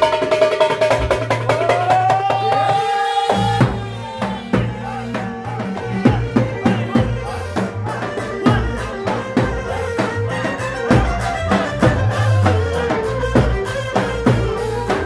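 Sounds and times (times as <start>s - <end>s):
drums steady strong beat: 0.0s - 15.0s.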